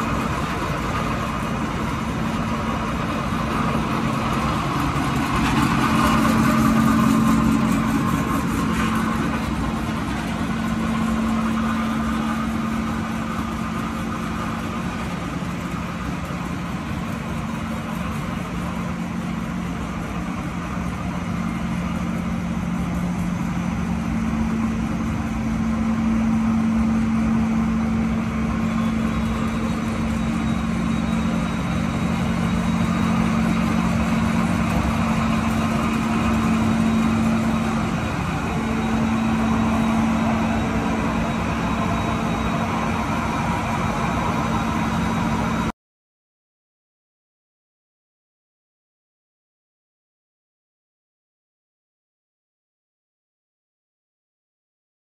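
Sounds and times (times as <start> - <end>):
factory machinery drone: 0.0 - 45.8.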